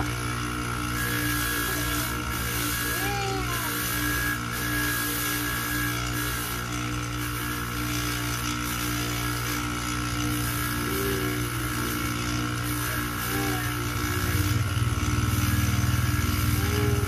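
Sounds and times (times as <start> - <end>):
polishing motor humming: 0.0 - 17.0.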